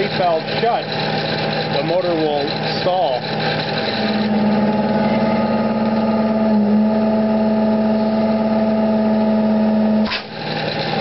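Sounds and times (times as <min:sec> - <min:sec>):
vacuum motor humming under strain: 0:00.0 - 0:11.0.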